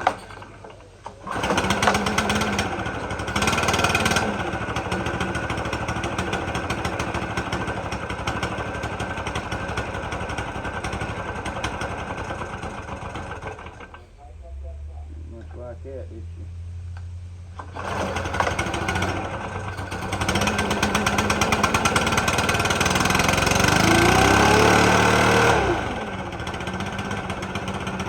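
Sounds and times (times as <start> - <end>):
blower fan rushing: 0.0 - 28.0
leaf blower engine revving: 1.1 - 15.5, 17.5 - 28.0.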